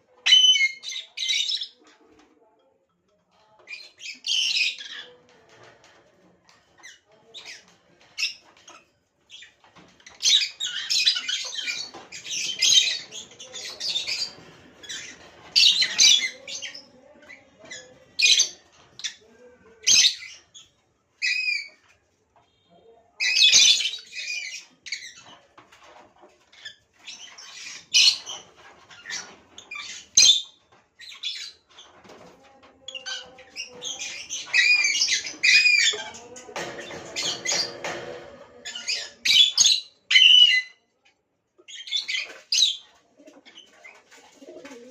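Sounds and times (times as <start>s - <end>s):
lovebirds chattering and squawking: 0.2s - 2.0s, 3.6s - 22.6s, 23.2s - 40.8s, 41.6s - 44.9s.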